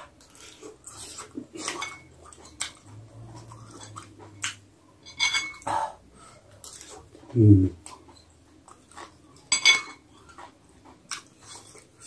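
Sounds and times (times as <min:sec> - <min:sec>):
man chewing and lip smacking: 0:00.0 - 0:04.7, 0:06.5 - 0:12.0.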